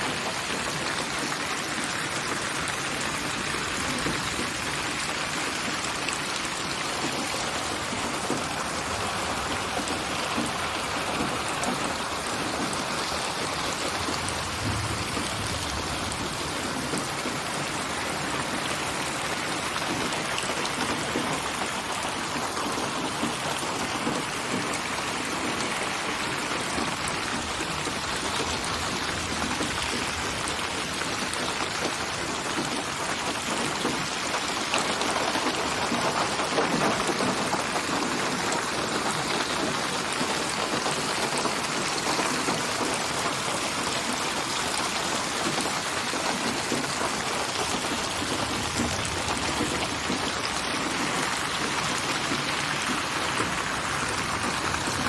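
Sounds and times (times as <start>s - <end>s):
rain pattering on surfaces: 0.0s - 55.0s.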